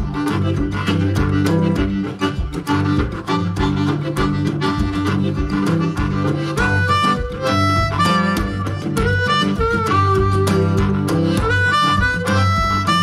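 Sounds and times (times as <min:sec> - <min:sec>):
upbeat music with bass line: 0:00.0 - 0:13.0.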